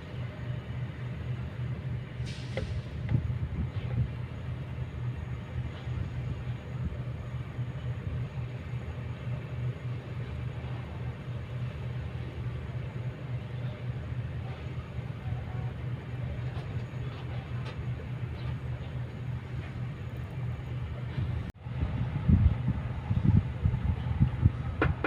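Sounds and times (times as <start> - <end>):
excavator diesel engine droning: 0.0 - 25.0.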